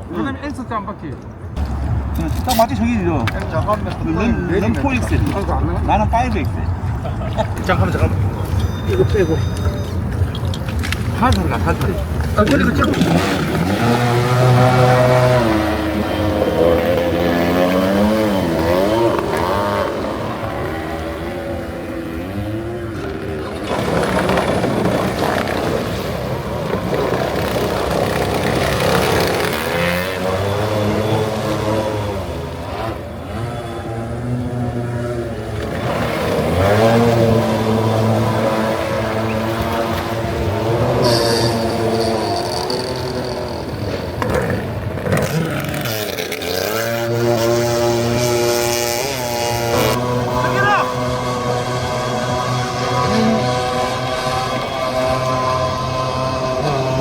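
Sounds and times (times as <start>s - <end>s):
motorized surfboard engines revving: 0.0s - 57.0s.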